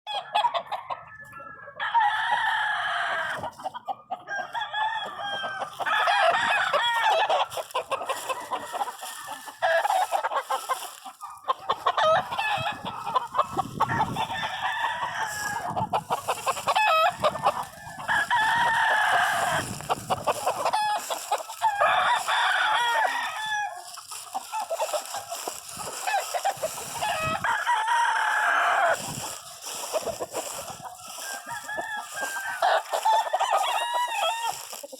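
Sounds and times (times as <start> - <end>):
chickens clucking: 0.1 - 34.9
roosters crowing: 0.1 - 34.9.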